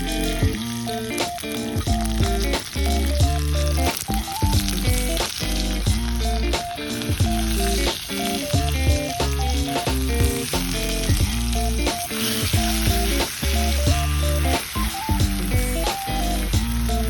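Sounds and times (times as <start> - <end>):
background music with bass: 0.0 - 17.0
steak sizzling over fire: 0.0 - 17.0.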